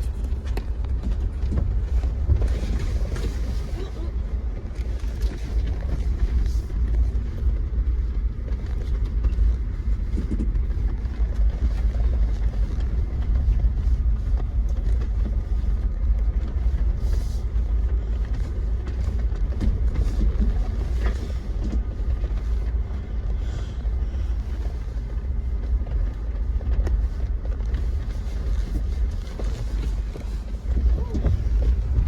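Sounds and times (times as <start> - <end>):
rattles and knocks over bumps: 0.0 - 32.0
vehicle driving on dirt trail: 0.0 - 32.0.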